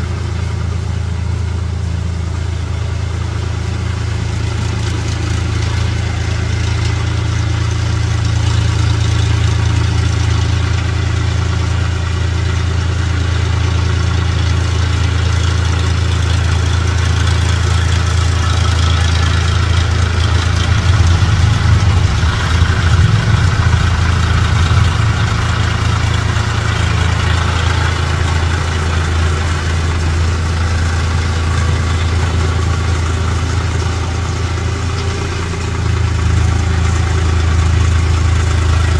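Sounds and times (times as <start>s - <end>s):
tiller churning mud: 0.0s - 38.9s
tractor diesel engine running: 0.0s - 38.9s.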